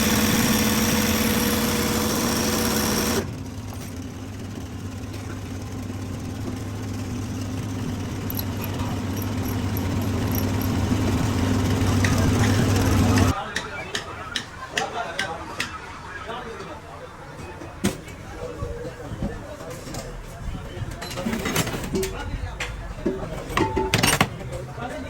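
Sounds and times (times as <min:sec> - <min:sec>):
engine humming: 0:00.0 - 0:13.4, 0:18.2 - 0:25.0.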